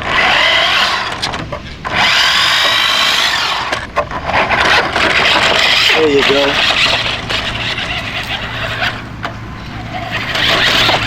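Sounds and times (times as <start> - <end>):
toy truck motor whining: 0.0 - 11.0.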